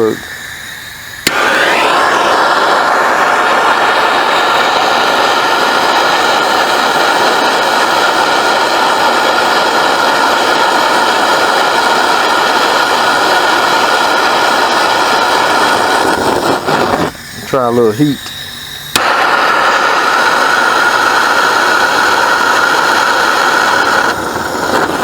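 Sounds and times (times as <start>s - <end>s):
gas torch flame hissing: 0.0s - 25.0s
torch igniter click: 0.6s - 17.1s, 18.2s - 25.0s.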